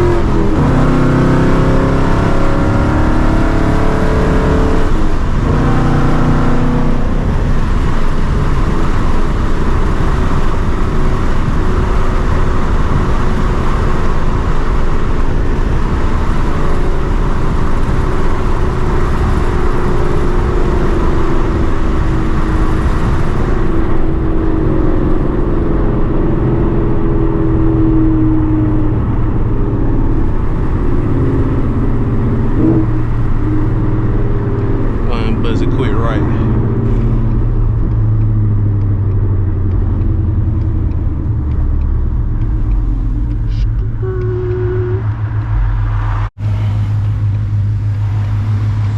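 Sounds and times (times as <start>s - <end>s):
loud car engine running: 0.0s - 48.9s
road noise: 0.0s - 48.9s.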